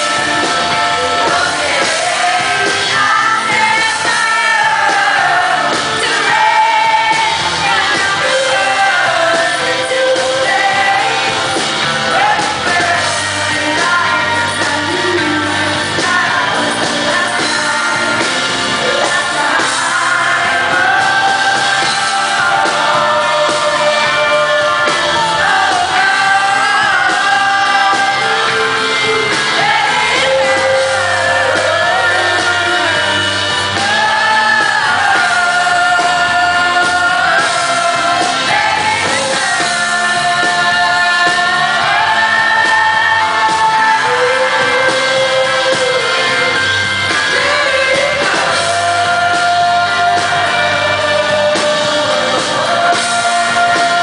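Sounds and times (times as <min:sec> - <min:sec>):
full band playing: 0:00.0 - 0:54.0
woman singing a power ballad: 0:00.1 - 0:54.0.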